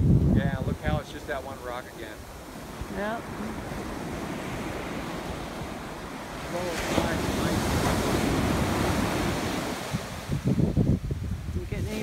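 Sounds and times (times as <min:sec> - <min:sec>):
ocean surf breaking on sand: 0:00.0 - 0:12.0
wind rumbling on microphone: 0:00.0 - 0:12.0.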